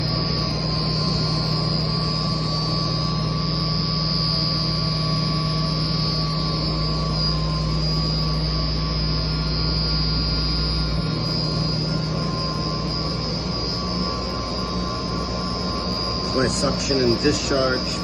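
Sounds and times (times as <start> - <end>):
electric water pumps humming: 0.0 - 18.0.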